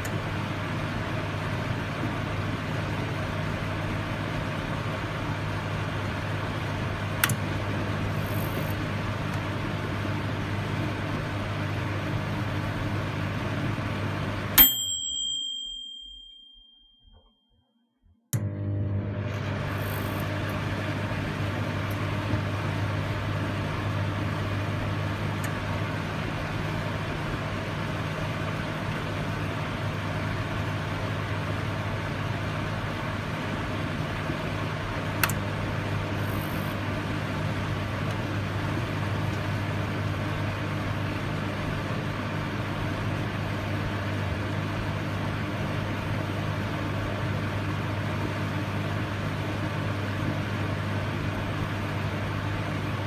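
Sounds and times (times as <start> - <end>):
microwave oven humming: 0.0 - 16.5, 18.4 - 53.0.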